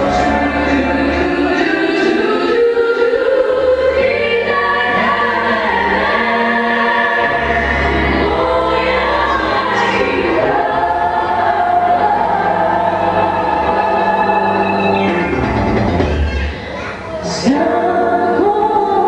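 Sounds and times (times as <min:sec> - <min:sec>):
bass line: 0:00.0 - 0:02.3, 0:03.6 - 0:16.6
vocal ensemble singing in harmony: 0:00.0 - 0:15.8, 0:17.3 - 0:19.0.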